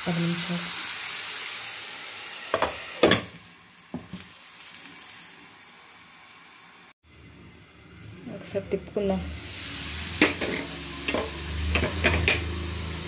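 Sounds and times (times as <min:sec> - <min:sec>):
carrots sizzling in oil: 0:00.0 - 0:07.0, 0:07.8 - 0:13.0.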